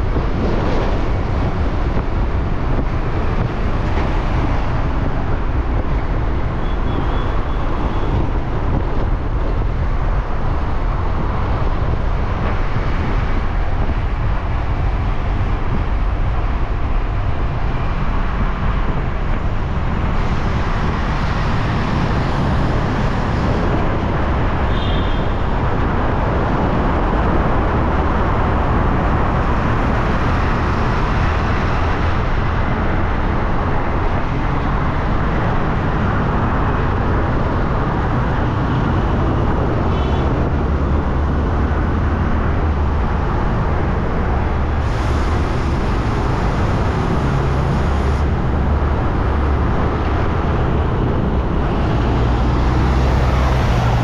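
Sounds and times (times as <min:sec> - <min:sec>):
passing cars and trucks: 0:00.0 - 0:54.0
wind rumbling on microphone: 0:00.0 - 0:54.0.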